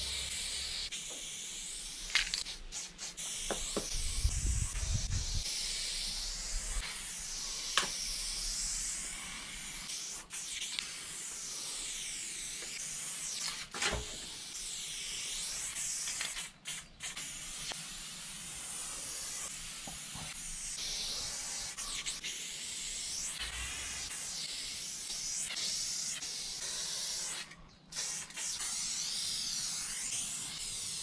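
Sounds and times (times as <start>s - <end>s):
spray paint can hissing: 0.0s - 31.0s.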